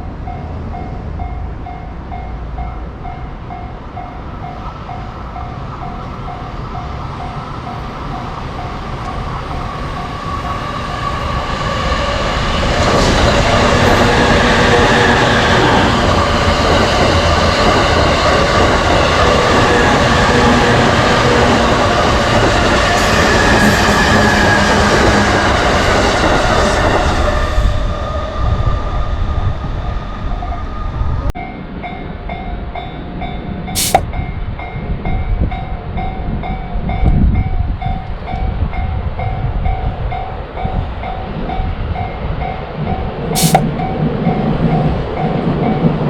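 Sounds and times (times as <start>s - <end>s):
electric train passing: 0.0s - 46.0s
train whine: 0.0s - 46.0s.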